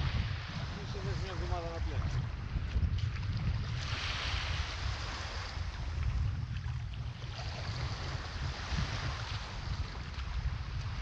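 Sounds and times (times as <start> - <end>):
small waves breaking on sand: 0.0 - 11.0
wind rumbling on microphone: 0.0 - 11.0.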